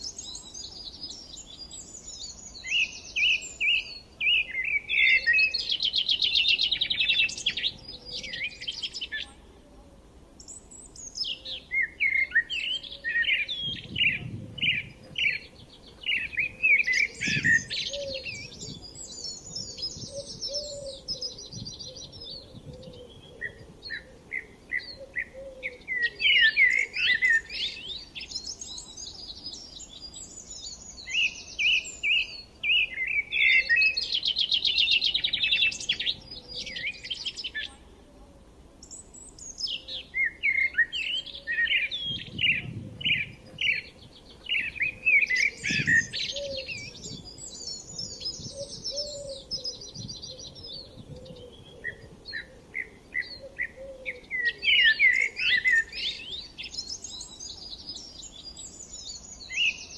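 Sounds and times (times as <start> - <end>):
birds singing and chirping: 0.0 - 9.4, 10.4 - 37.9, 38.8 - 59.9.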